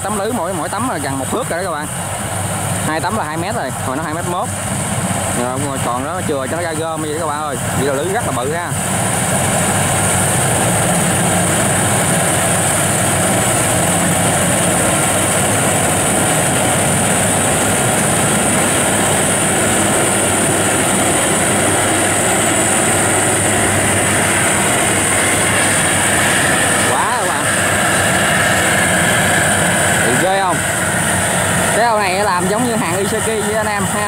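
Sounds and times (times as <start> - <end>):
combine harvester engine drone: 0.0 - 34.0
steady high whine: 0.0 - 34.0.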